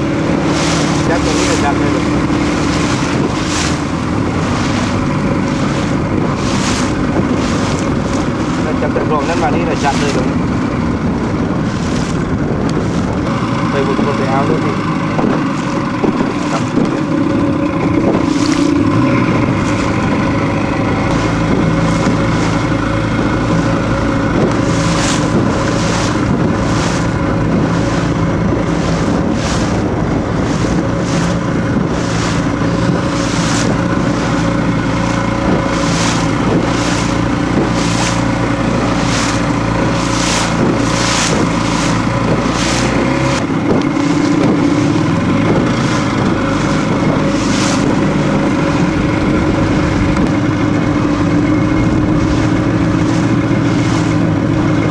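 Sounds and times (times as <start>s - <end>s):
motorboat engine running: 0.0s - 54.9s
water splashing against hull: 0.0s - 54.9s.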